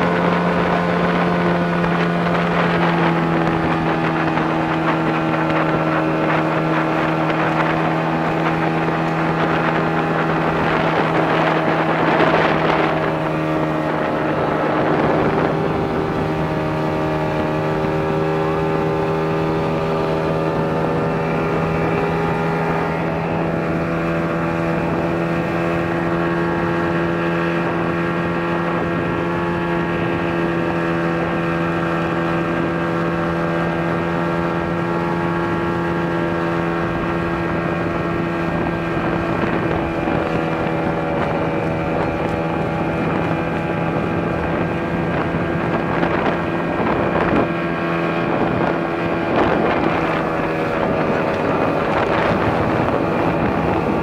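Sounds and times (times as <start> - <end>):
rushing water: 0.0 - 54.0
speedboat engine running: 0.0 - 54.0
wind on microphone: 0.0 - 54.0.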